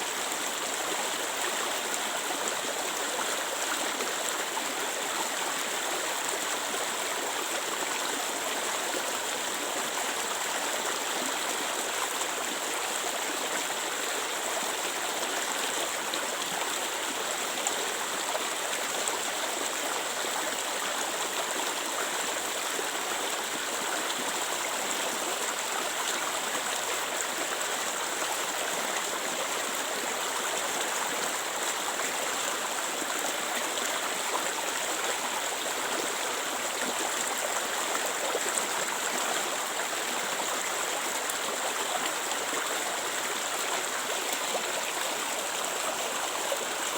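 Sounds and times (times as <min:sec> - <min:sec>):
water flowing over rocks: 0:00.0 - 0:46.9.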